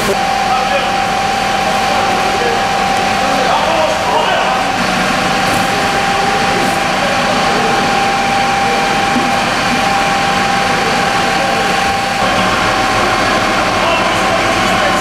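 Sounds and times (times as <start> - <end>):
fire engine running: 0.0 - 15.0
steady whine: 0.0 - 15.0.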